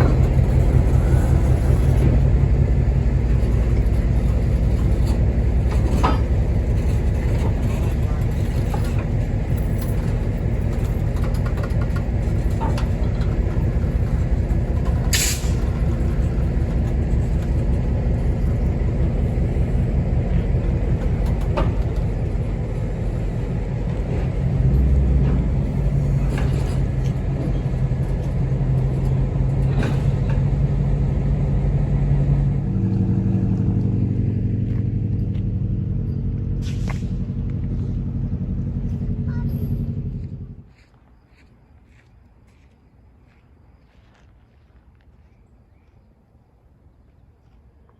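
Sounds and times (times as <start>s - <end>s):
diesel locomotive engine rumble: 0.0s - 47.9s.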